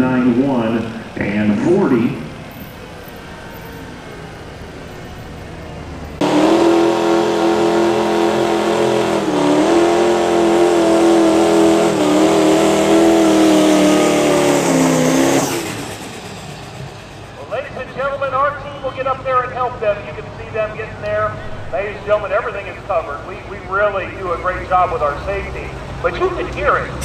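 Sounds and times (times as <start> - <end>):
background noise: 0.0 - 6.8, 11.9 - 27.0
diesel truck engine high-revving drone: 0.0 - 27.0.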